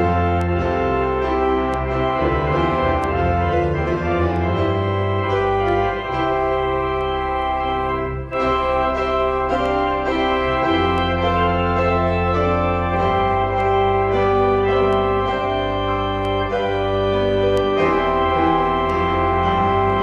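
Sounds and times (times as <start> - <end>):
organ playing sustained chords: 0.0 - 20.0.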